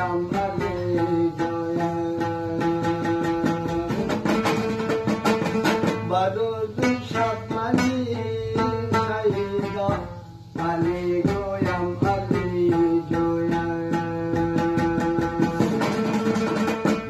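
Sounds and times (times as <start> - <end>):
lute strummed fast: 0.0 - 17.0.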